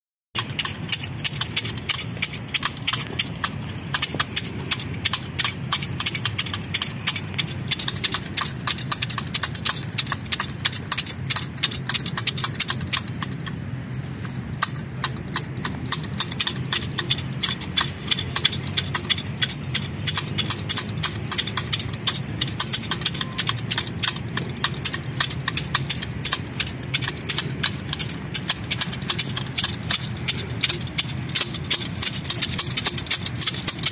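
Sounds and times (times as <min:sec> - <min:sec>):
hedge shears snipping: 0:00.4 - 0:33.9
steady low hum: 0:00.4 - 0:33.9.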